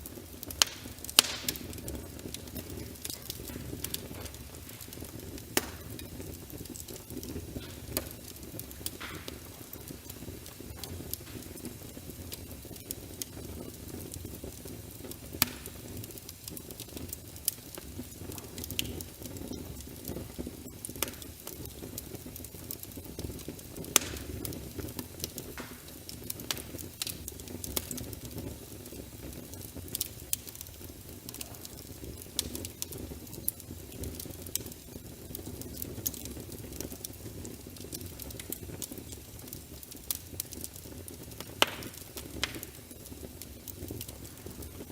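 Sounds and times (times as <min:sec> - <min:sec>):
low rumble of burning: 0:00.0 - 0:44.9
sharp pops of fire: 0:00.0 - 0:44.9
wood fire crackling: 0:00.0 - 0:44.9.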